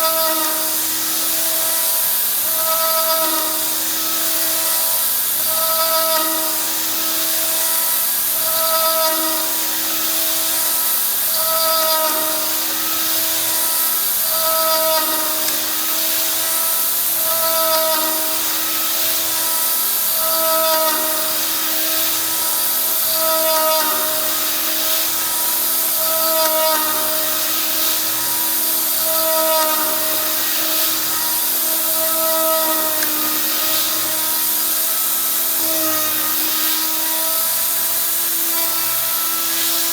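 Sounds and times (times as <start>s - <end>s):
rotary tool milling metal: 0.0s - 39.9s.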